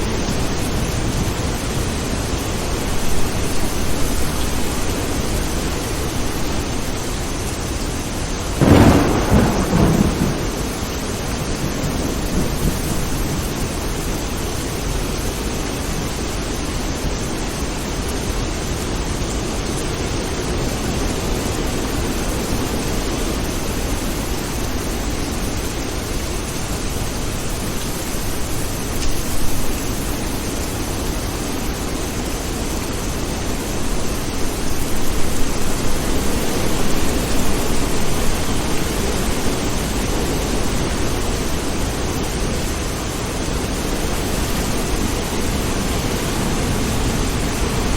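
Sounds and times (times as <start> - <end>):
dense rainfall hiss: 0.0 - 47.9.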